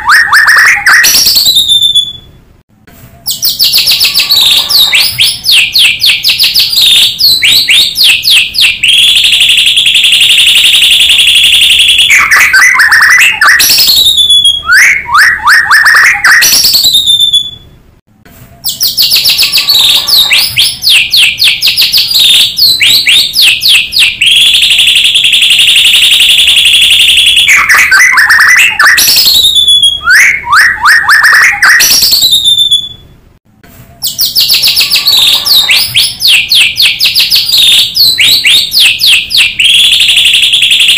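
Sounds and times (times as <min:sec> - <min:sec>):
bird song with trills and whistles: 0:00.0 - 0:02.4, 0:03.1 - 0:17.8, 0:18.6 - 0:33.1, 0:34.0 - 0:40.9.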